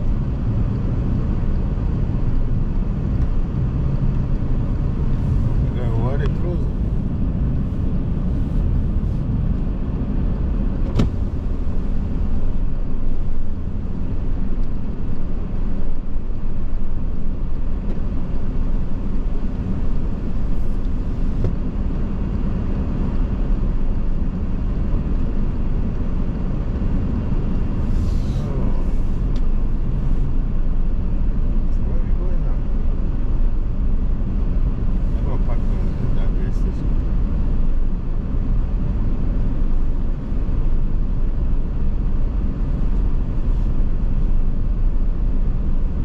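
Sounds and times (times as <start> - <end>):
car driving rumble from inside: 0.0 - 46.0.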